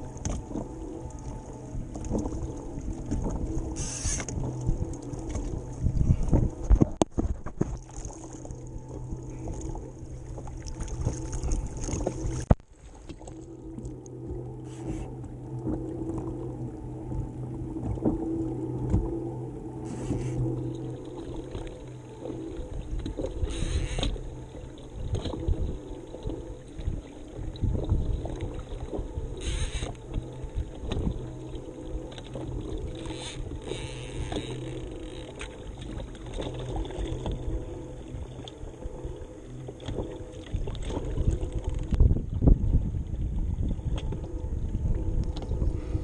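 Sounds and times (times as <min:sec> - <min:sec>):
water lapping against hull: 0:00.0 - 0:46.0
water splashes: 0:00.0 - 0:46.0
wind rumbling on microphone: 0:00.0 - 0:46.0.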